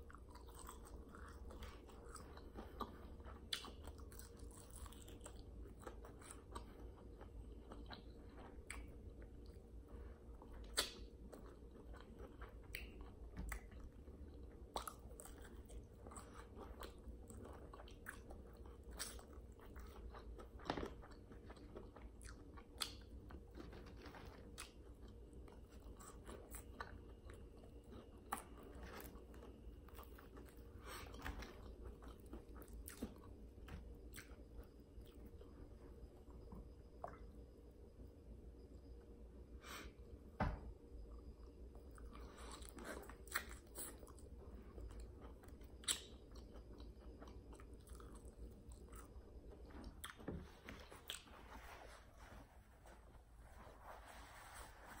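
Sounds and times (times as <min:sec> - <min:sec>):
chewing crispy fried chicken: 0:00.0 - 0:37.4, 0:40.9 - 0:51.5.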